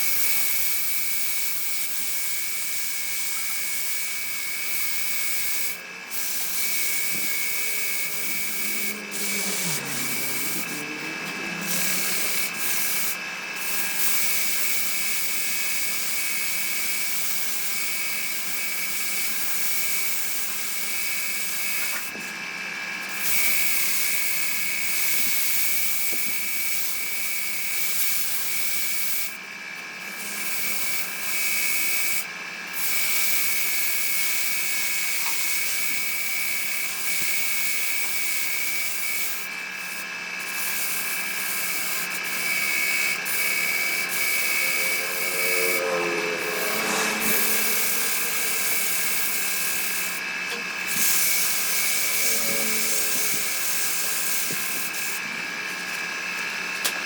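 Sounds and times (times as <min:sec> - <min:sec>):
hissing scrape on spinning wood: 0:00.0 - 0:22.1, 0:23.2 - 0:56.1
lathe whine: 0:00.0 - 0:57.0.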